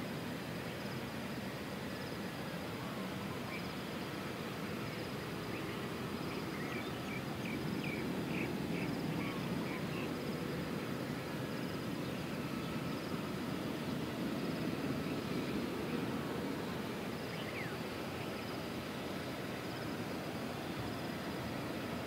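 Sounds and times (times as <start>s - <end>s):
insects trilling: 0.2s - 22.0s.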